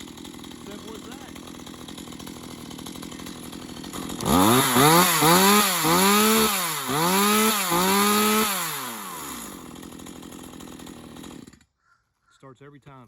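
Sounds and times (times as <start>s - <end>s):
chainsaw idling and revving: 0.0s - 11.8s.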